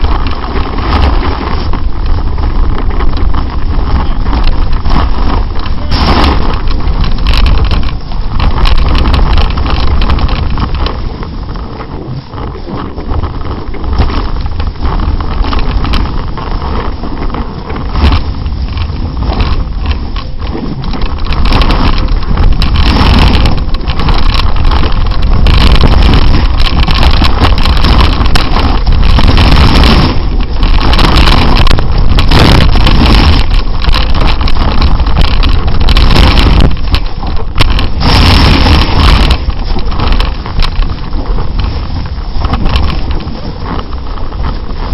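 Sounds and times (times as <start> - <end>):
snowboard scraping over snow: 0.0 - 44.9
wind buffeting microphone: 0.0 - 44.9.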